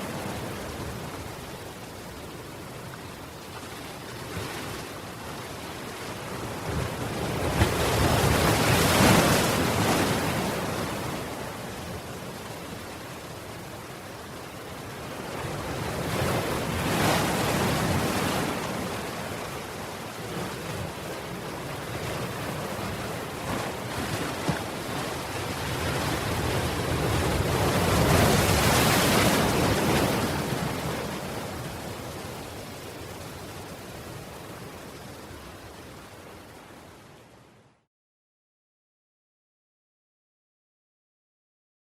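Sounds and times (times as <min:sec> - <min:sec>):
waves breaking on stony shore: 0:00.0 - 0:35.8
surf washing: 0:00.0 - 0:37.3.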